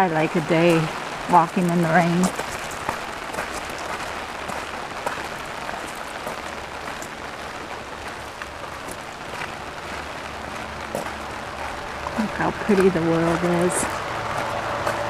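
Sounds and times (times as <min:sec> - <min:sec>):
heavy rain on an umbrella: 0:00.0 - 0:15.0.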